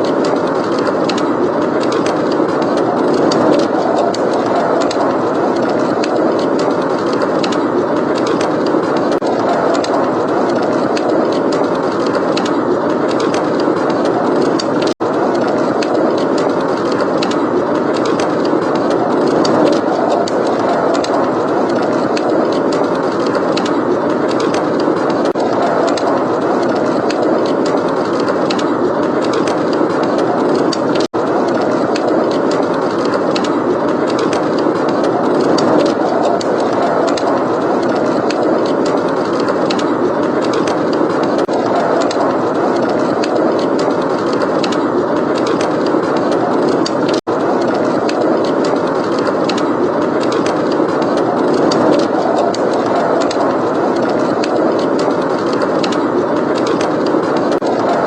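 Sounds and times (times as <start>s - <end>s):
blizzard wind blowing: 0.0s - 58.0s.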